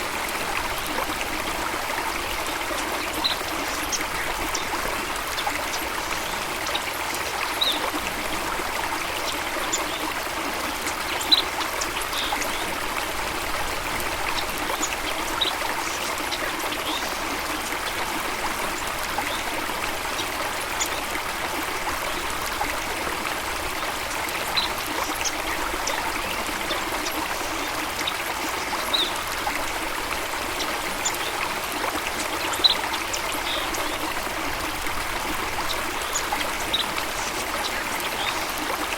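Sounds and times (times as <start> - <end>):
running water flowing: 0.0 - 38.9.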